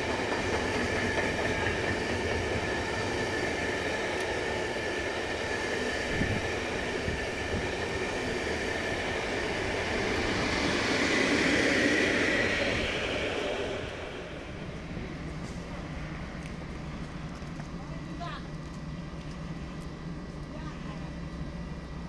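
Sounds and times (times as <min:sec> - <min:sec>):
electric locomotive passing: 0:00.0 - 0:22.0
train wheels rumbling on rail: 0:00.0 - 0:22.0.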